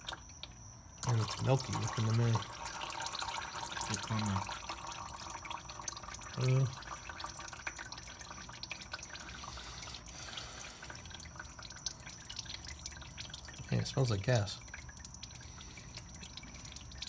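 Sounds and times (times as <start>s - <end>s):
oil trickling into drain pan: 0.0s - 17.0s.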